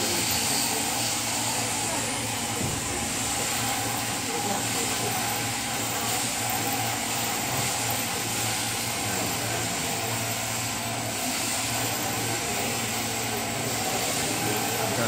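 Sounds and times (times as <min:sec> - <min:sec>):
electric sheep shears clipping fleece: 0:00.0 - 0:15.0.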